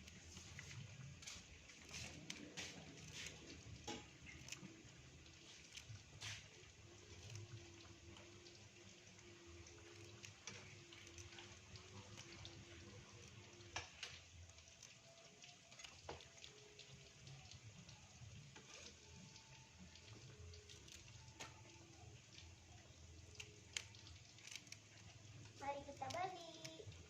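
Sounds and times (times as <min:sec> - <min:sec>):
oil popping: 0:00.0 - 0:27.0
food sizzling in hot oil: 0:00.1 - 0:27.0.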